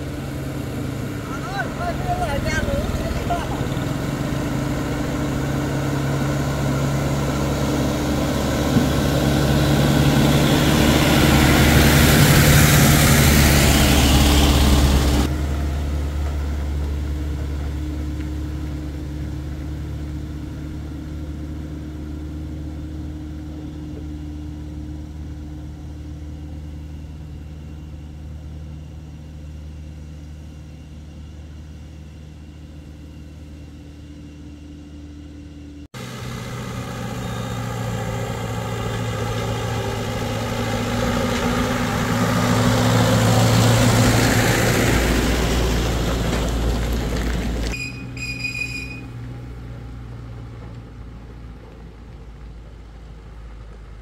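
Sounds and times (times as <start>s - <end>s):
diesel truck driving past: 0.0s - 54.0s.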